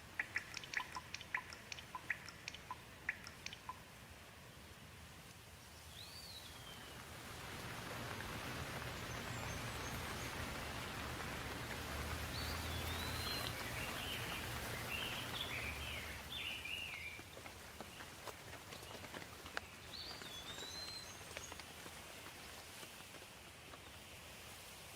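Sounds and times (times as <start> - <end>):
birds chirping: 0.0 - 4.7, 5.6 - 24.0
steady rain falling: 0.0 - 24.9.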